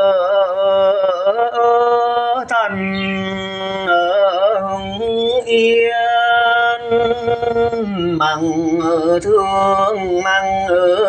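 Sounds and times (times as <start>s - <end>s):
person singing long wavering notes: 0.0s - 11.0s.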